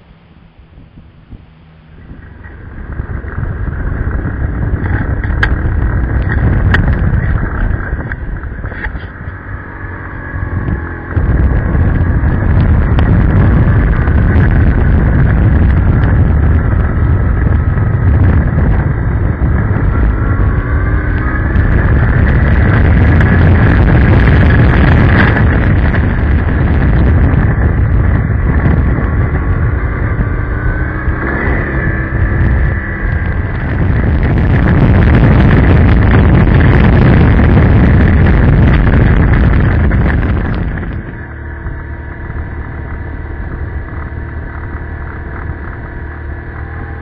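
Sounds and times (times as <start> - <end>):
motorcycle engine: 0.0 - 47.0
wind buffeting: 0.0 - 47.0.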